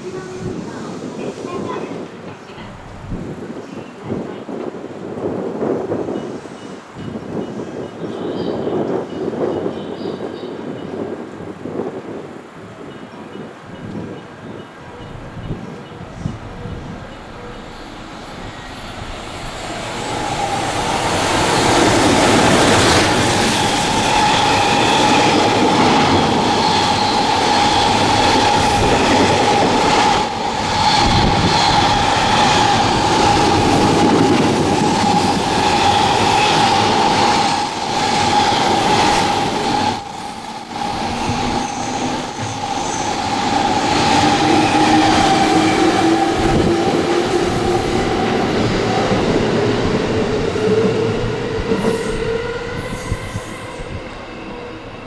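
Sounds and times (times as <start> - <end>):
electric train rumble and clatter: 0.0 - 55.0.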